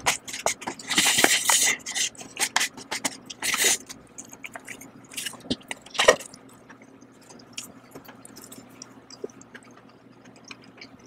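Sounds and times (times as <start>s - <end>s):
drinking and chewing noodles: 0.0s - 11.0s.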